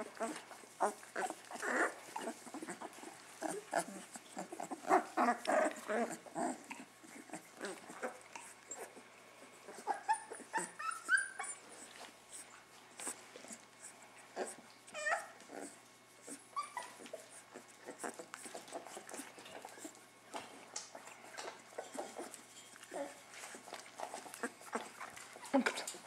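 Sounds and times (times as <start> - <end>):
rustling of fur and bedding: 0.0 - 9.9, 11.6 - 26.0
puppy whining: 0.0 - 26.0.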